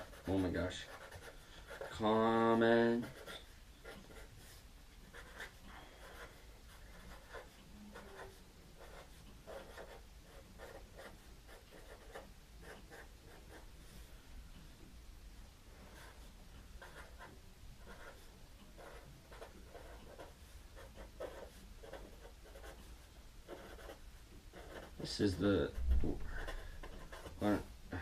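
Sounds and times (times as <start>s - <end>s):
marker scratching on cardboard: 0.0s - 2.0s, 2.9s - 13.7s, 15.9s - 27.7s.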